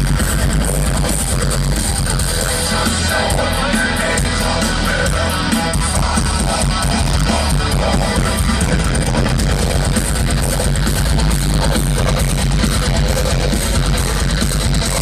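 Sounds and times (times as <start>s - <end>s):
heavy metal band playing live: 0.0s - 15.0s.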